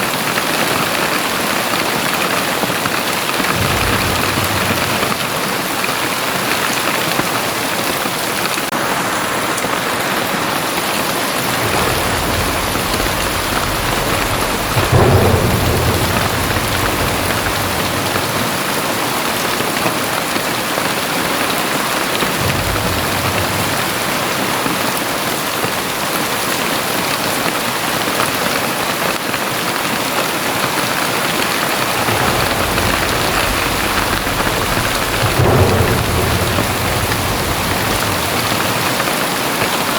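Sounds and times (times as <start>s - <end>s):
very heavy rain pouring: 0.0s - 39.9s
low rumbles of thunder: 0.1s - 7.8s, 11.2s - 26.6s, 29.7s - 39.9s.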